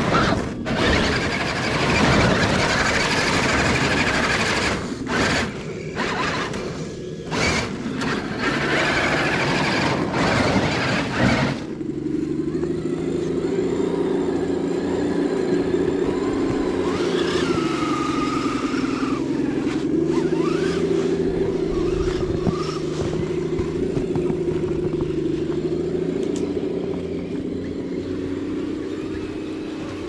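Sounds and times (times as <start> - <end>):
electric motor whining: 0.0 - 30.0.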